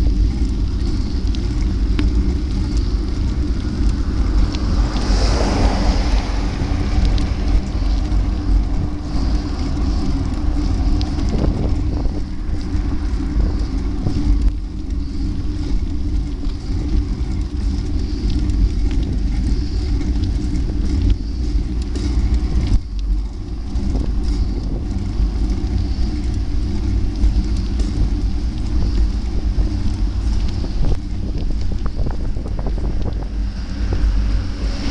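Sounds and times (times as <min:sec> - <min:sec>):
low rumble with hiss: 0:00.0 - 0:34.9
wind buffeting microphone: 0:00.0 - 0:34.9.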